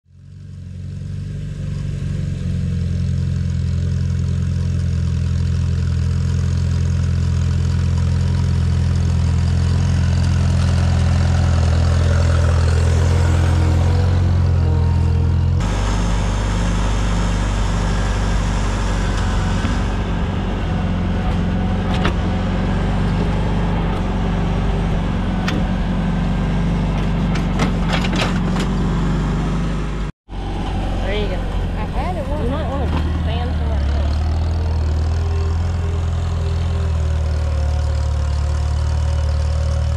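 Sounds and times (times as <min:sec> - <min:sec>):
tractor engine running: 0:00.1 - 0:39.9.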